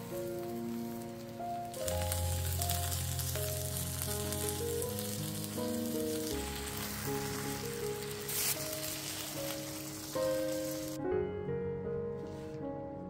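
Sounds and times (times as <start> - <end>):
tortillas sizzling in oil: 0.0 - 11.0
soft background music: 0.0 - 13.0.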